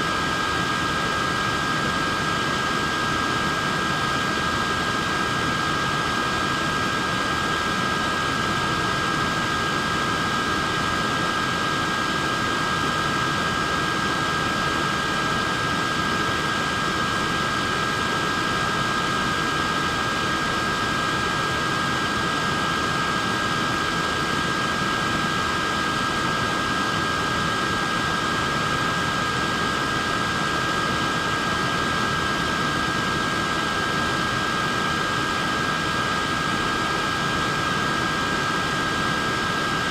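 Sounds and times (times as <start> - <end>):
neck fan running: 0.0 - 39.9.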